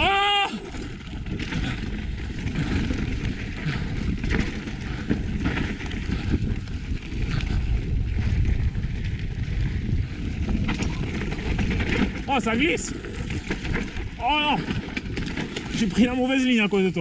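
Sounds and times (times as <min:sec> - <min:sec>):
bike tyres rumbling over stones: 0:00.0 - 0:17.0
bike clattering over bumps: 0:00.3 - 0:17.0.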